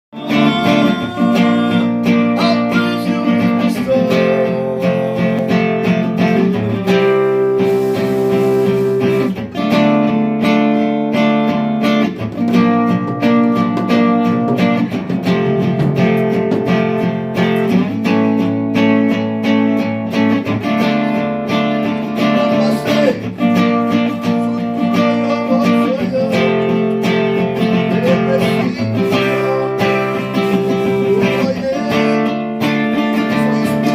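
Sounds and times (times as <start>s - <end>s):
guitar strumming chords: 0.1s - 33.9s.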